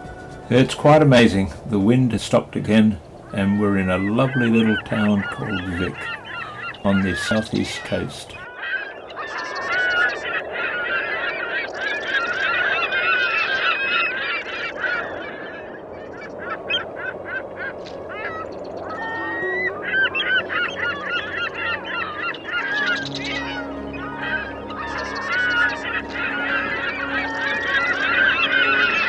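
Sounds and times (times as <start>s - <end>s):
flock of birds honking: 0.0s - 29.0s.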